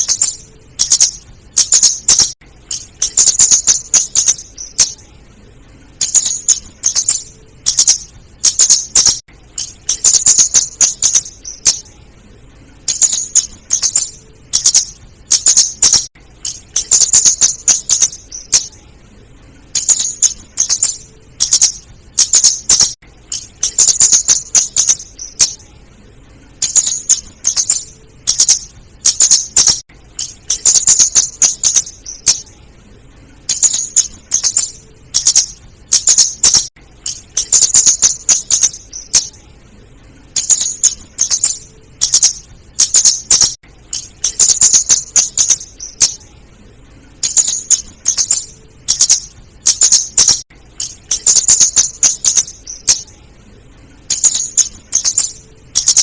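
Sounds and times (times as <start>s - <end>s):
bird ticking calls: 0.0s - 5.0s, 6.0s - 11.9s, 12.8s - 18.8s, 19.7s - 25.6s, 26.6s - 32.5s, 33.5s - 39.3s, 40.4s - 46.2s, 47.2s - 53.1s, 54.1s - 56.0s.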